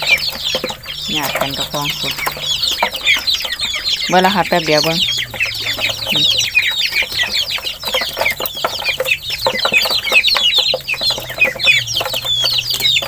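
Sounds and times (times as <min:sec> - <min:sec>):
ducklings and chicks peeping: 0:00.0 - 0:13.0.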